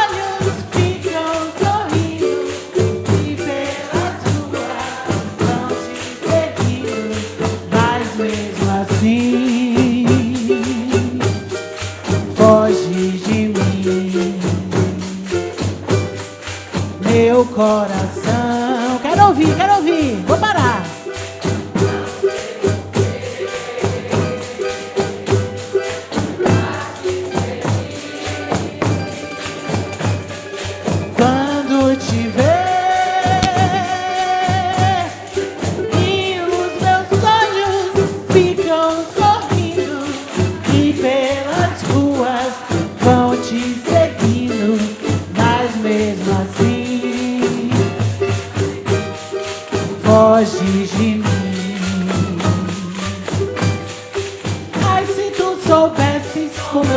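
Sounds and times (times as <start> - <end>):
frame drums with jingles: 0.0 - 56.9
people singing: 0.0 - 56.9.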